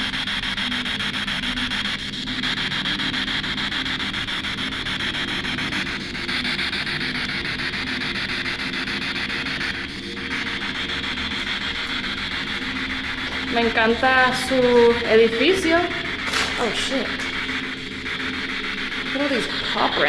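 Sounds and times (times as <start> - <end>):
radio sweep static: 0.0 - 20.0.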